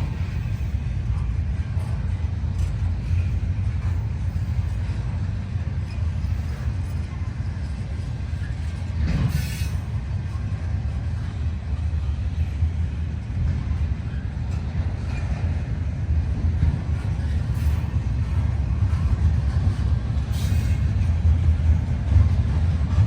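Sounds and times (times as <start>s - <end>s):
freight train cars rumbling: 0.0s - 23.0s
train cars clanking: 0.0s - 23.0s.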